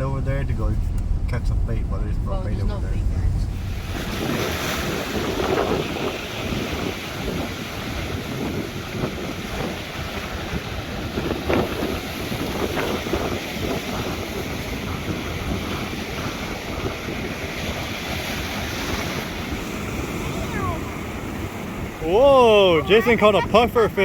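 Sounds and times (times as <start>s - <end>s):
ocean surf rushing: 0.0s - 24.0s
wind buffeting microphone: 0.0s - 24.0s.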